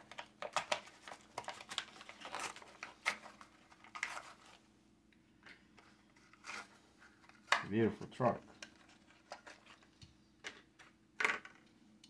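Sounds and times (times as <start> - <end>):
plastic and card crinkling: 0.0 - 4.6, 5.5 - 11.0.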